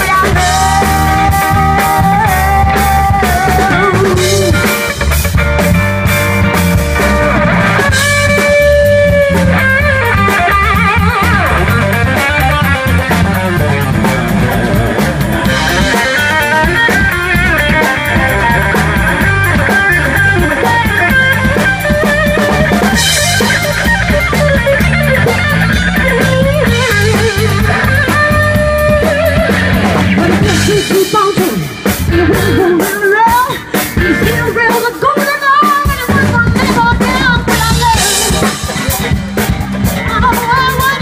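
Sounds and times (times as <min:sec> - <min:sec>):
bass guitar: 0:00.0 - 0:41.0
drum kit: 0:00.0 - 0:41.0
electric guitar solo: 0:00.0 - 0:41.0.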